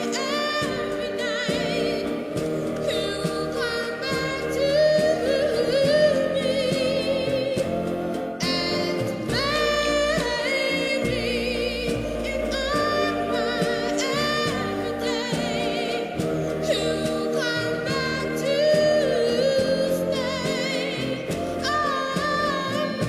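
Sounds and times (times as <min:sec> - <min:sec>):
instrumental backing: 0:00.0 - 0:23.0
person singing with vibrato: 0:00.0 - 0:23.0.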